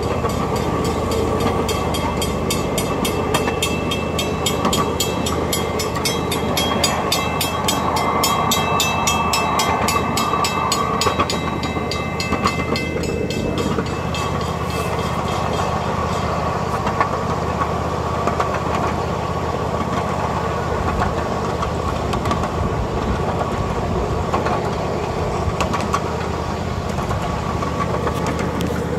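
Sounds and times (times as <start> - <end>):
miniature train rumbling and rattling: 0.0 - 28.9.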